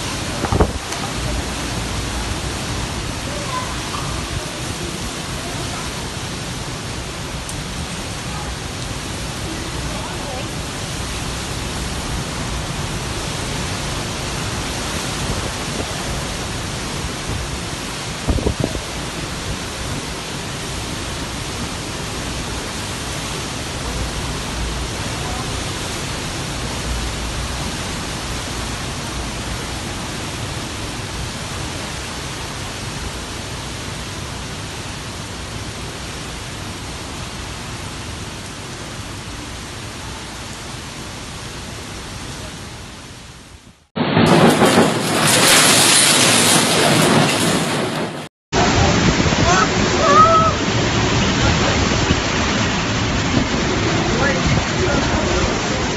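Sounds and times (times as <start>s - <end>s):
heavy driving rain: 0.0s - 55.9s
strong wind roaring: 0.0s - 55.9s.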